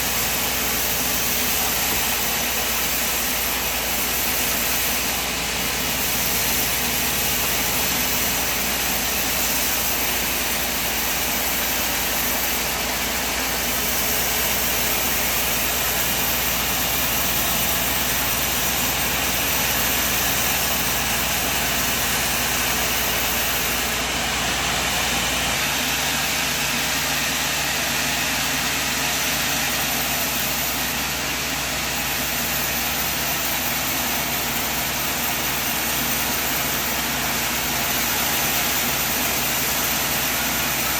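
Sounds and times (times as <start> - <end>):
sawmill machine running: 0.0 - 40.9.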